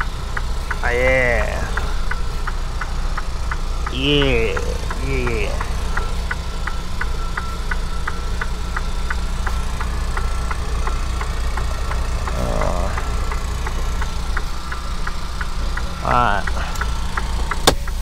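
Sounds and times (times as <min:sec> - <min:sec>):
diesel truck engine idling: 0:00.0 - 0:18.0
steady ticking: 0:00.0 - 0:18.0.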